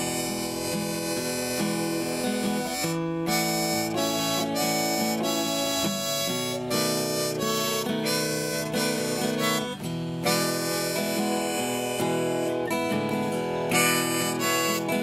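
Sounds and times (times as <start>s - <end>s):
blues harmonica wailing: 0.0s - 15.0s
guitar accompaniment: 0.0s - 15.0s.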